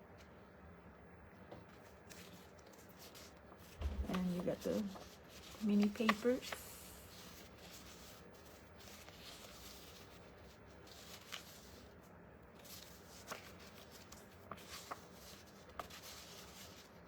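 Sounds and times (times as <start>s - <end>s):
paper sheets shuffled: 1.5s - 12.0s, 12.6s - 17.0s.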